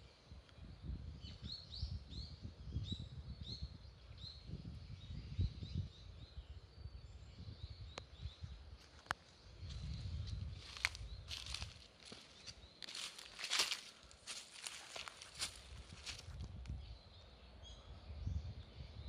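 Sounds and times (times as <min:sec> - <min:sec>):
small bird chirping: 0:00.8 - 0:18.3.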